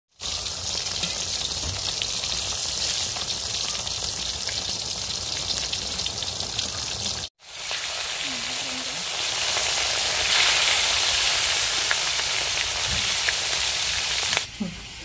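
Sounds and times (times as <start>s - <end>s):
food deep-frying in hot oil: 0.1s - 15.0s.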